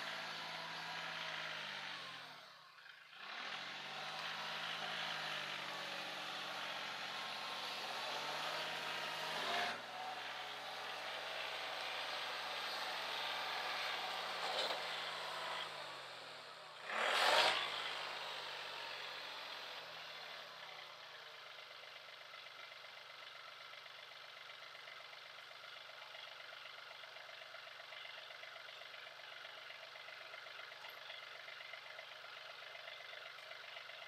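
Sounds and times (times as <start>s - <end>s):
tractor diesel engine: 0.0s - 34.0s.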